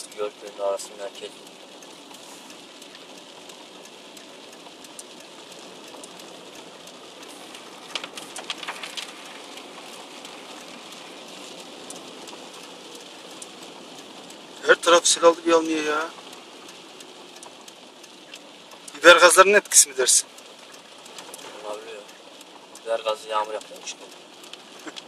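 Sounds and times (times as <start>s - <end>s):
tyres hissing on wet road: 0.0s - 25.0s
windscreen wipers clicking: 0.0s - 25.0s.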